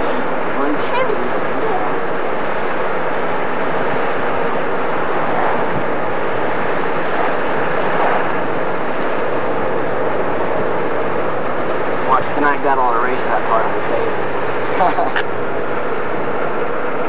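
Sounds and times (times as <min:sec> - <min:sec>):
car engine low hum: 0:00.0 - 0:17.0
tyres on the road: 0:00.0 - 0:17.0.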